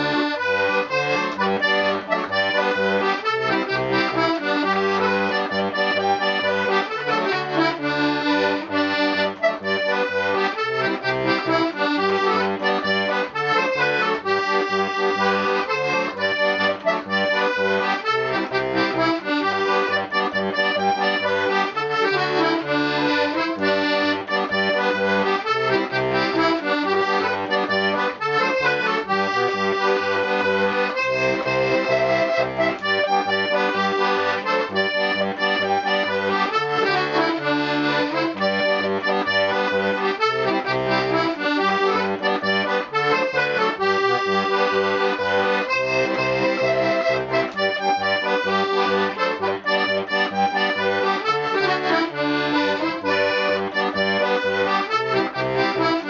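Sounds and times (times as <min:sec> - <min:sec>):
button accordion playing: 0:00.0 - 0:56.0.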